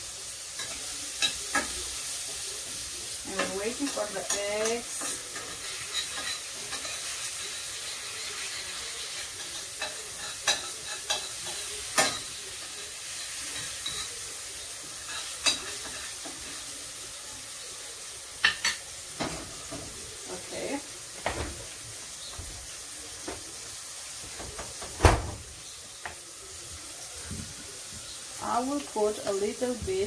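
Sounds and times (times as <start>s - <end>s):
eggs sizzling in a pan: 0.0s - 30.0s.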